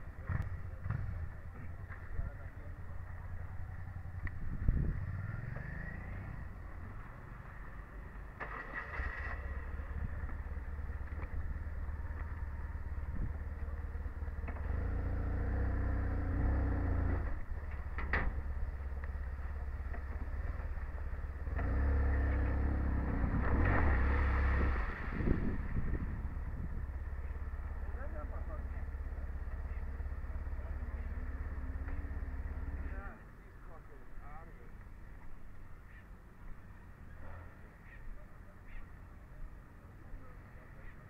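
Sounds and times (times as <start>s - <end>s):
motorcycle engines revving: 0.0s - 33.3s.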